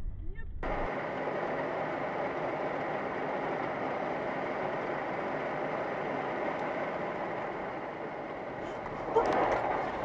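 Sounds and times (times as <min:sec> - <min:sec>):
car engine running: 0:00.6 - 0:10.0
tyres on wet asphalt: 0:00.8 - 0:10.0.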